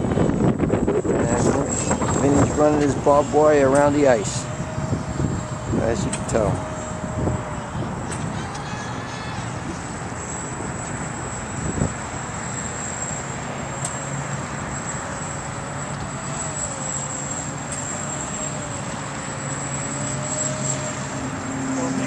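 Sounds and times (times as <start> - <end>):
steady rushing noise: 0.0 - 22.0
rc boat motor running: 0.3 - 22.0.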